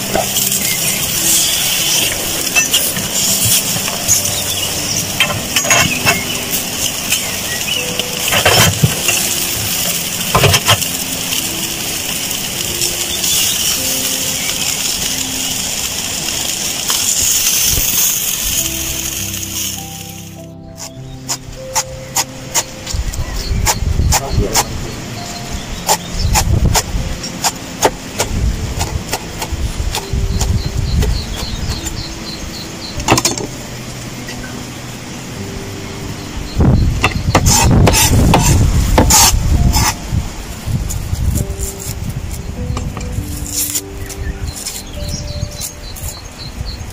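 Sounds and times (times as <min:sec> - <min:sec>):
meat sizzling over coals: 0:00.0 - 0:46.9.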